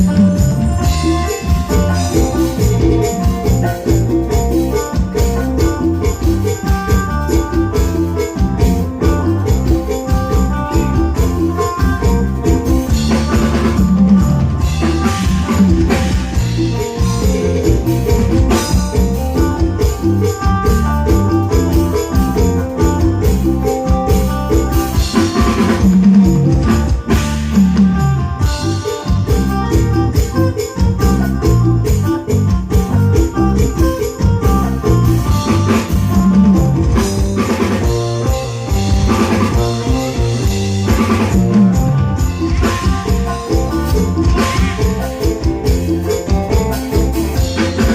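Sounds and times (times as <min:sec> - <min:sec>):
loud music with drum beat: 0:00.0 - 0:47.9.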